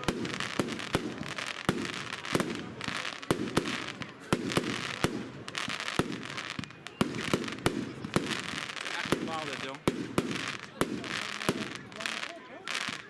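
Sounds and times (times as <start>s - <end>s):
firework cake bangs: 0.0s - 13.0s
steady firework hiss: 0.0s - 13.0s.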